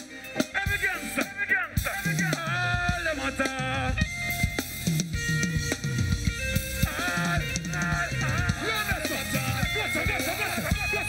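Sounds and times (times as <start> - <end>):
live dancehall band music: 0.0 - 11.0.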